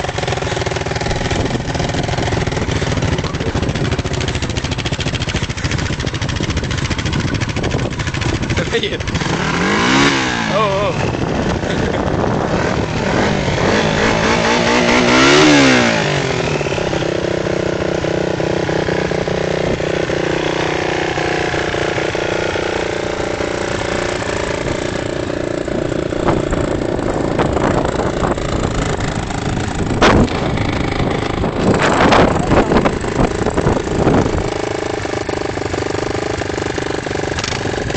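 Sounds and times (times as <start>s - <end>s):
vehicle engine revving: 0.0s - 37.9s.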